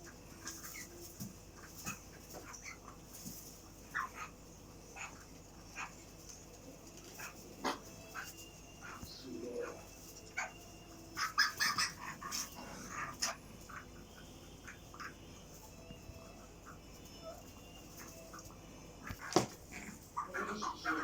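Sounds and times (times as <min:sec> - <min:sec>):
chickens peeping: 0:00.0 - 0:21.0.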